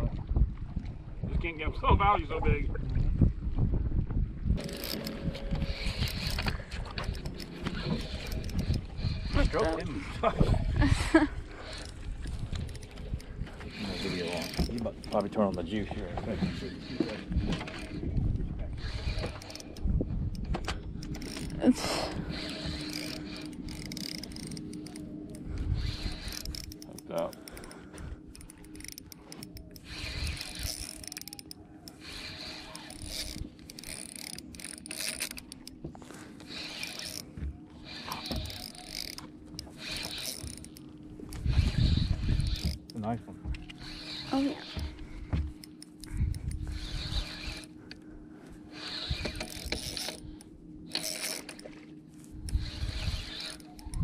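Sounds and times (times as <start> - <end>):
steady low hum: 3.2 - 54.0
fishing reel clicking and whirring: 4.6 - 54.0.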